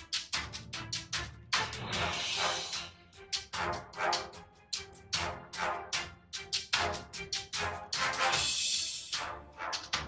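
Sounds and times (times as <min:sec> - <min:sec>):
music with quick percussive beat: 0:00.0 - 0:10.0.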